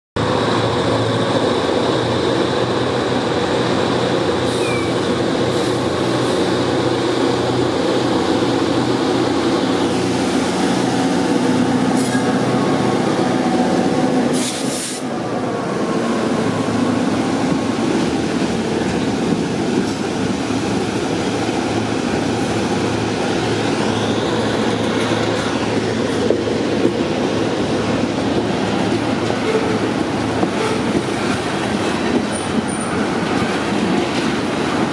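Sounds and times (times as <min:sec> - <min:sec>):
rail cars rolling by: 0:00.2 - 0:34.9
diesel locomotives screaming: 0:00.3 - 0:34.9.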